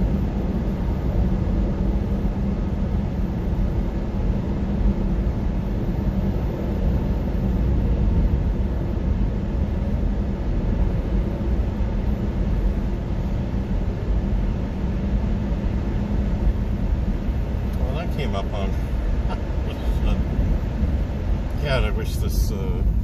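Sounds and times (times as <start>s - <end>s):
road and tyre rumble: 0.0s - 23.0s.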